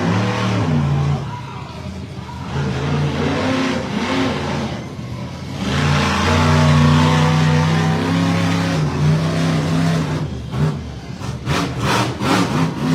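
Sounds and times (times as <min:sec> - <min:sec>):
monster truck engine revving: 0:00.0 - 0:12.9.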